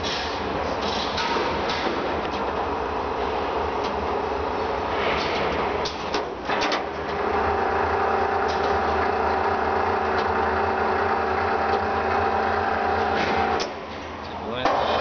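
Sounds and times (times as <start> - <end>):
grinder mechanical hum: 0.0 - 15.0.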